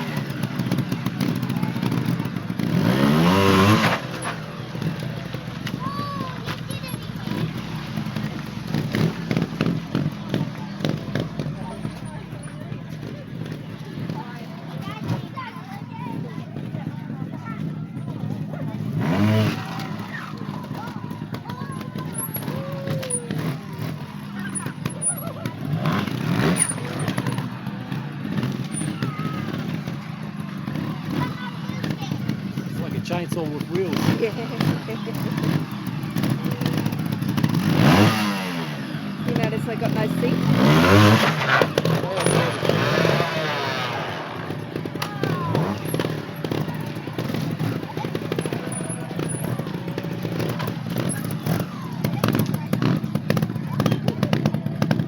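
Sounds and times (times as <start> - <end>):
small motorcycle engine revving: 0.0 - 55.0.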